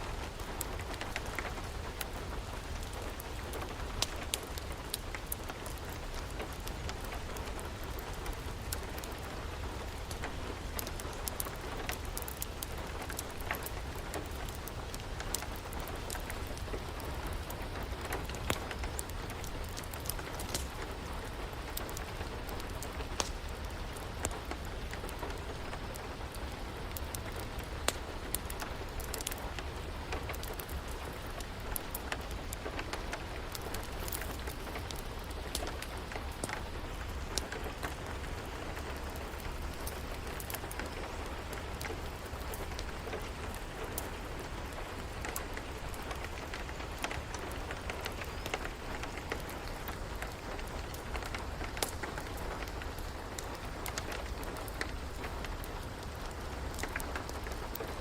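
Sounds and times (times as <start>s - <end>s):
rain falling: 0.0s - 58.0s
wood fire crackling: 0.0s - 58.0s.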